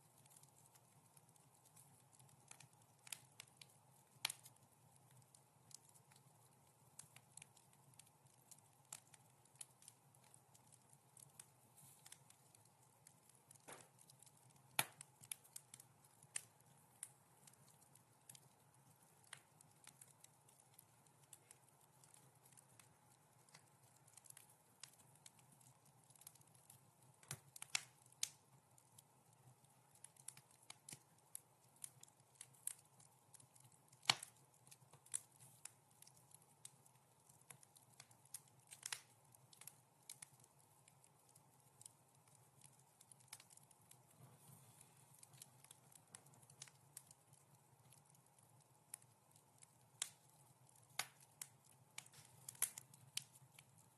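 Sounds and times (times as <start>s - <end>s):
faint steady hiss: 0.0s - 53.9s
wood fire crackling: 0.0s - 53.9s.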